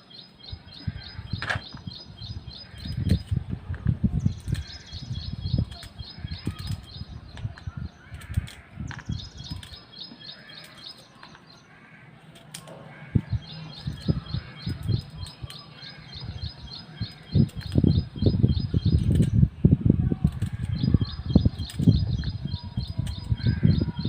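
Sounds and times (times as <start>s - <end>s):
bird chirping: 0.0s - 3.4s, 4.1s - 19.7s, 20.3s - 24.0s.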